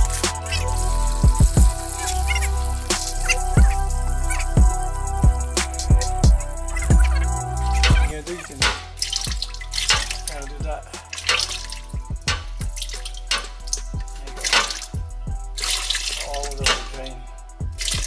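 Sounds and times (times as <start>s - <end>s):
fluid pouring and dripping: 0.0s - 18.0s
music with steady beat: 0.0s - 18.0s.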